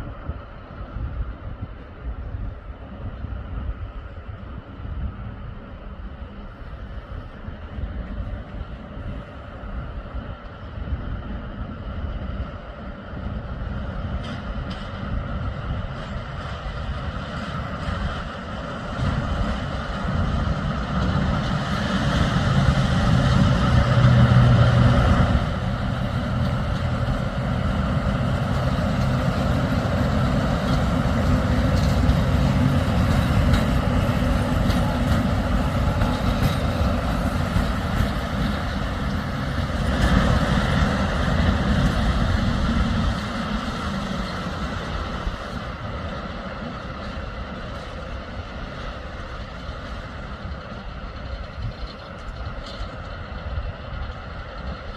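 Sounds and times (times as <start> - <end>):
locomotive rumble: 0.0 - 54.9.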